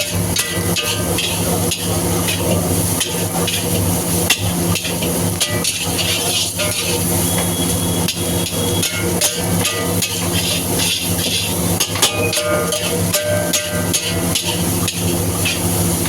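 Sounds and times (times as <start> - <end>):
metal spatula clanging on wok: 0.0 - 16.0
steady frying hiss: 0.0 - 16.0.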